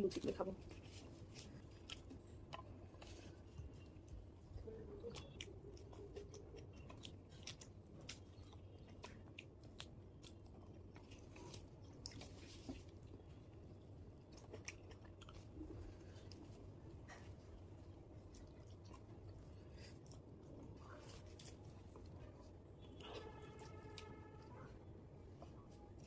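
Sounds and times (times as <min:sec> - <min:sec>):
person chewing food: 0:00.6 - 0:26.0.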